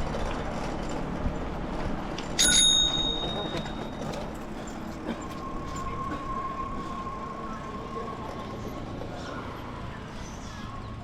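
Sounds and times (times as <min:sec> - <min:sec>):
bicycle road rumble: 0:00.0 - 0:11.0.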